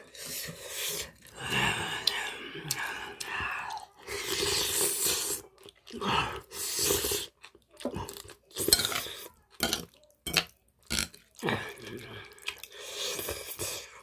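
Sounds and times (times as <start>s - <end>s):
close-up chewing: 0.5s - 14.0s.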